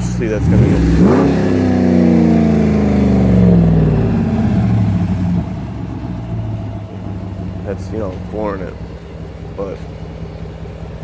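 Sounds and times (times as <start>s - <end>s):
loud car engine revving: 0.0s - 8.8s.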